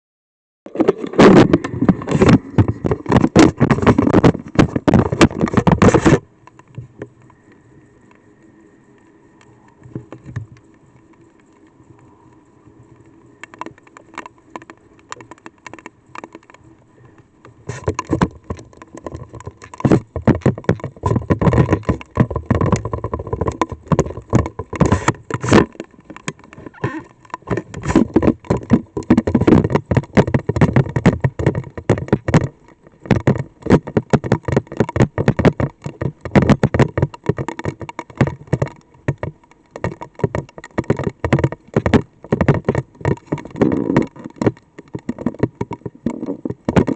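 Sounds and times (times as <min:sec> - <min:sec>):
rain drops patter: 0:06.3 - 0:46.9.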